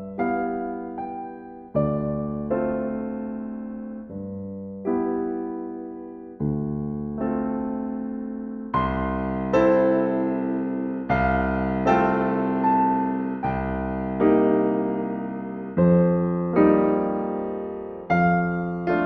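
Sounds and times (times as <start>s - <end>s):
gentle solo piano: 0.0s - 19.0s.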